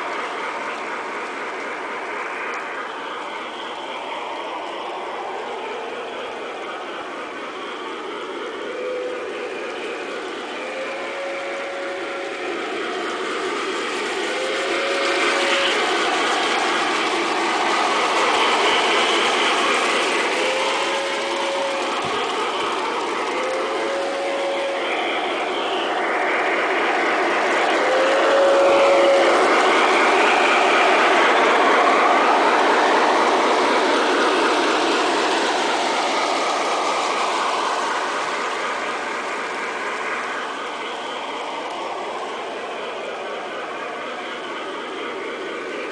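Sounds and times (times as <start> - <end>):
model train wheels clattering: 0.0 - 45.9
simulated steam sounds: 0.0 - 45.9.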